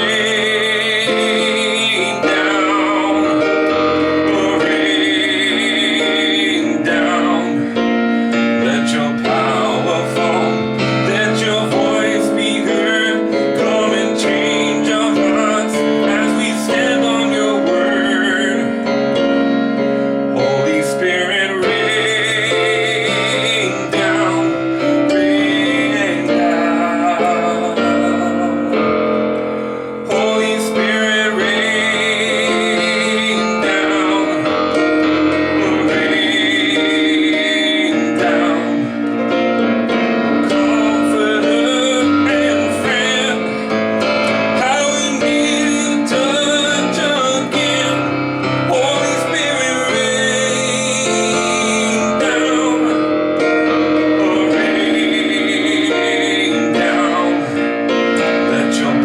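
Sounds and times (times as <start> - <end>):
piano playing worship song: 0.0 - 59.0.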